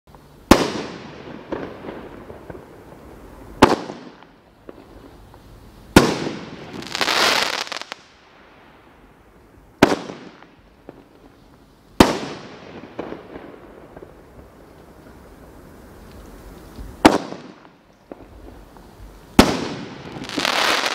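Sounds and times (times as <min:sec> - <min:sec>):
dense firework crackling: 0:00.1 - 0:20.9.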